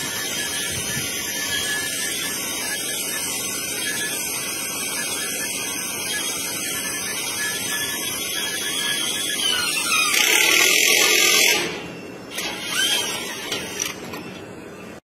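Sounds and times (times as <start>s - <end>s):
cordless power tool running: 0.0s - 14.0s.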